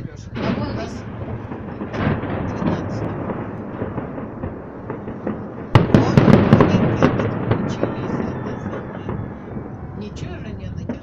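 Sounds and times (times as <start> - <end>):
fireworks rumbling: 0.0 - 11.0
firework bang: 0.3 - 11.0.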